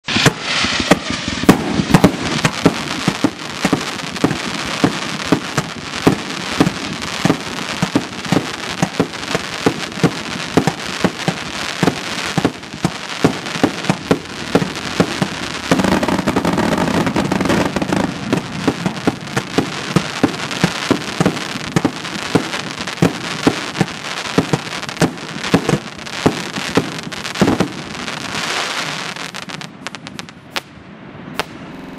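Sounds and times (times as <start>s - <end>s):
fireworks shells bursting: 0.0s - 29.1s
crackling firework stars: 0.0s - 31.9s.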